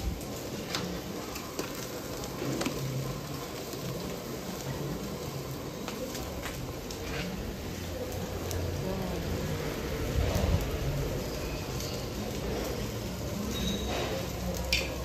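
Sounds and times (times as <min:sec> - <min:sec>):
fish and meat sizzling on a grill: 0:00.0 - 0:15.0.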